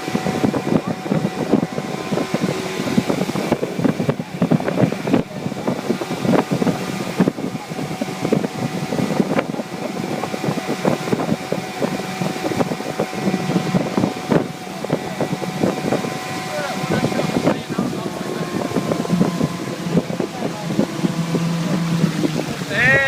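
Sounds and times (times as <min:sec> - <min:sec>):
outboard motor running: 0:00.0 - 0:23.0
wind on microphone: 0:00.0 - 0:23.0.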